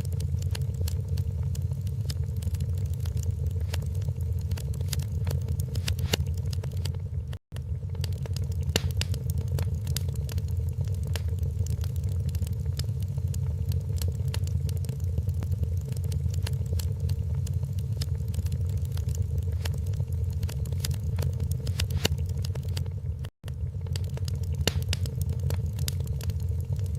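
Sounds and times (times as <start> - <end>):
low rumble: 0.0 - 26.9
wood fire crackling: 0.0 - 26.9.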